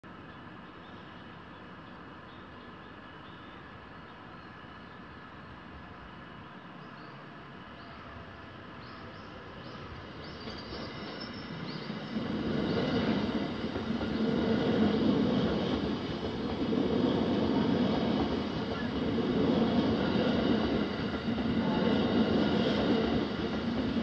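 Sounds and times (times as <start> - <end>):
train passing: 2.9 - 24.0.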